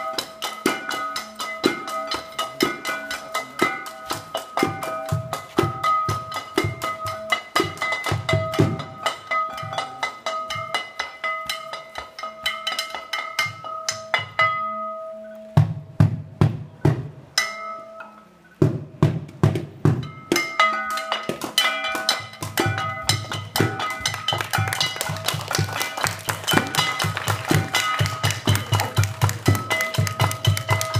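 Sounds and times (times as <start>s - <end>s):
low drum beats: 0.0s - 14.7s, 15.5s - 17.7s, 18.6s - 30.9s
pitched percussion strokes: 0.0s - 30.9s.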